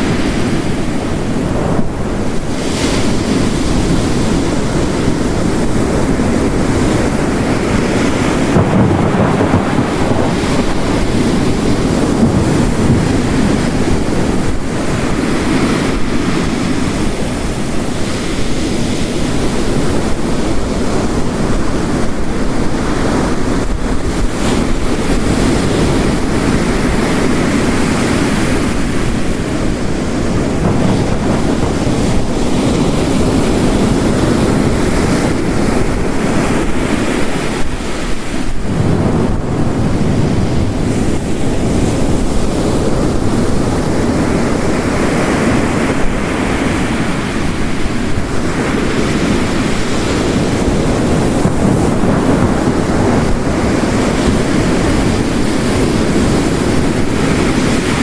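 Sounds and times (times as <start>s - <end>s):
heavy rain falling: 0.0s - 58.0s
ocean waves crashing: 0.0s - 58.0s.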